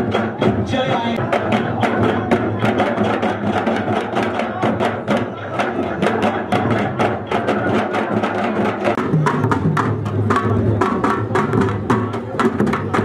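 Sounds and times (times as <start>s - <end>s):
deep drum: 0.0s - 13.0s
fast rhythmic percussion strokes: 0.0s - 13.0s.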